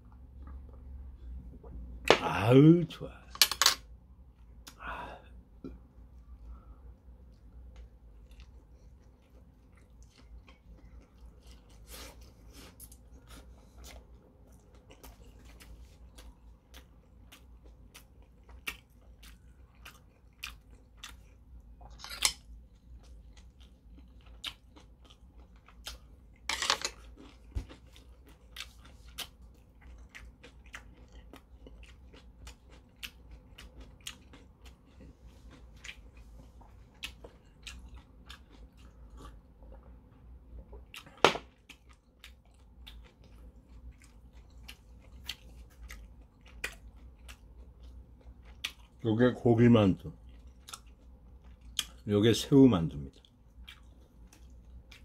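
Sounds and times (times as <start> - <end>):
person chewing wetly: 0.0 - 1.8, 5.6 - 49.0, 50.0 - 52.1, 53.0 - 55.0.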